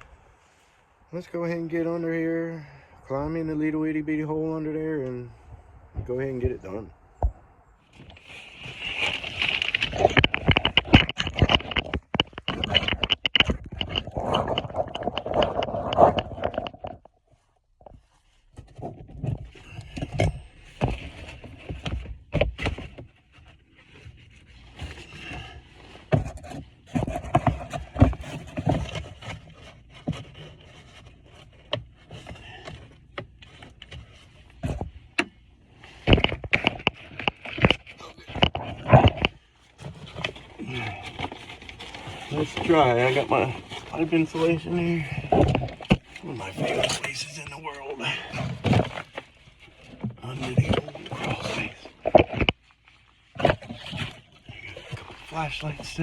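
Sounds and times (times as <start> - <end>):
scrapes and knocks: 5.9 - 56.0.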